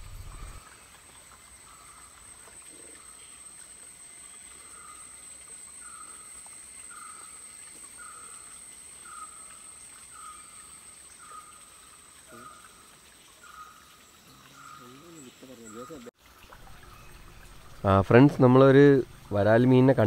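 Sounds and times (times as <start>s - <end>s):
insects high-pitched whine: 0.0s - 16.1s.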